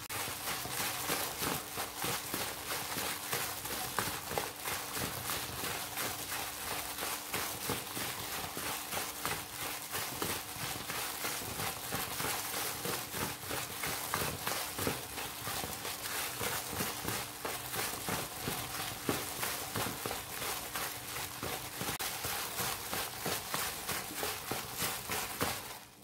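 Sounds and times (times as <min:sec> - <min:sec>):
gloved hands rustling flour: 0:00.0 - 0:26.0.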